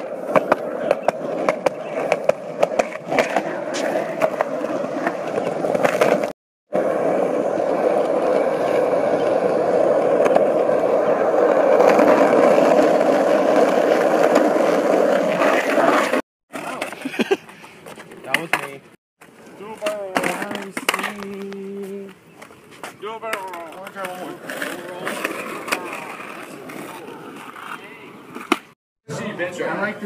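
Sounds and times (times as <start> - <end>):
skateboard rolling on rough asphalt: 0.0 - 28.8
skateboard wheels clicking on slab joints: 0.0 - 28.8.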